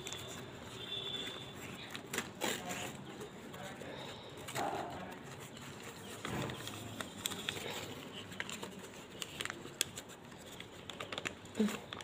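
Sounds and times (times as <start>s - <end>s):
newspaper rustling and crinkling: 0.0s - 12.0s.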